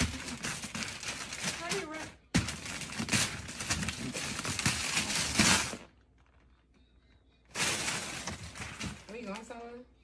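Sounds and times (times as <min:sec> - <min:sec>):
wrapping paper tearing: 0:00.0 - 0:06.4, 0:07.5 - 0:09.1.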